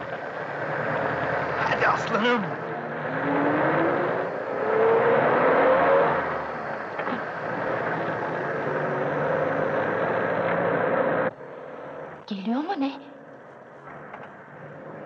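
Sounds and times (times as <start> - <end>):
truck engine revving hard: 0.0 - 12.2, 13.2 - 15.0.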